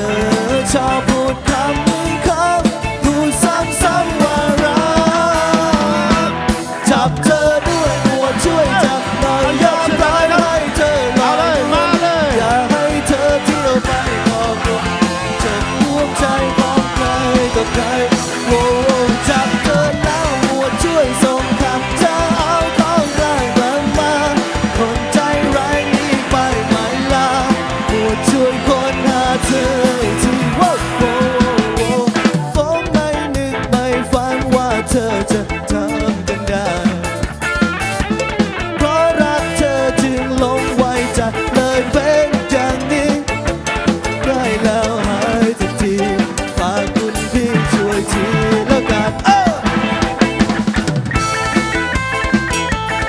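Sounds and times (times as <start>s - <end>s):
drum kit beat: 0.0s - 53.0s
live band playing: 0.0s - 53.0s.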